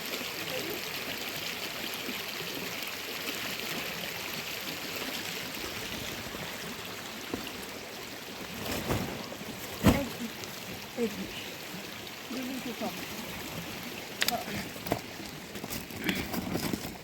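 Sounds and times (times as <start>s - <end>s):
flowing water: 0.0s - 17.0s.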